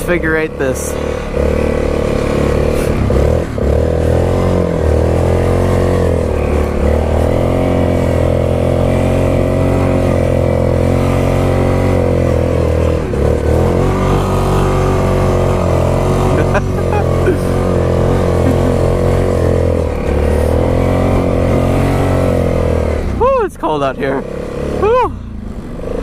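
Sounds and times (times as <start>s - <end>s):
atv engine revving hard: 0.0s - 26.0s.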